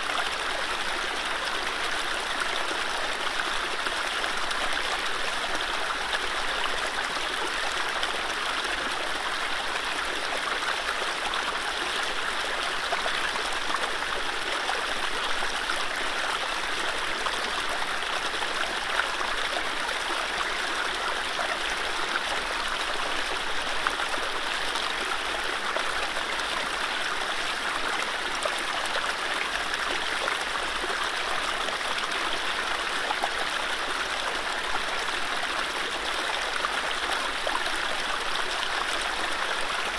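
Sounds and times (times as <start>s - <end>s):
stream over rapids: 0.0s - 39.9s.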